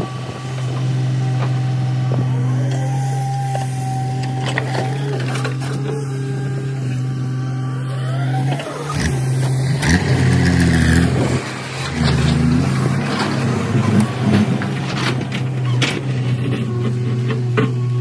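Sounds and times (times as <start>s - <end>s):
dump truck engine running: 0.0s - 18.0s
excavator diesel engine revving: 0.0s - 18.0s.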